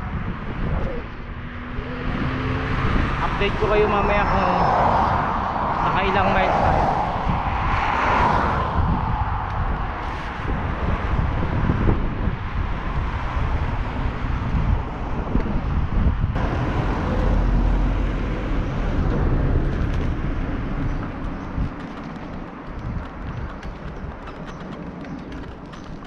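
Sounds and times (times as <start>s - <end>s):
bicycle road noise: 0.0s - 26.0s
wind on microphone: 0.0s - 26.0s.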